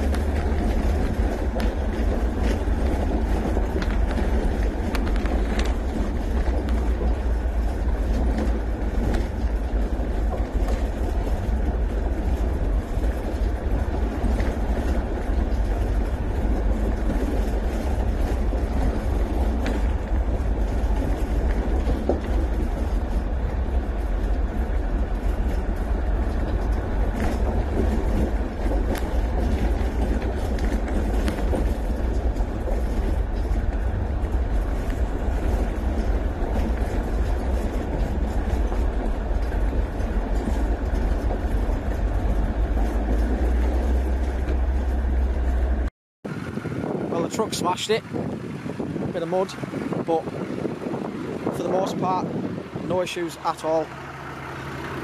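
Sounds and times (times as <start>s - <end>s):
knocks and rattles from bumps: 0.0s - 45.9s
vehicle engine and tyres rumbling: 0.0s - 55.0s.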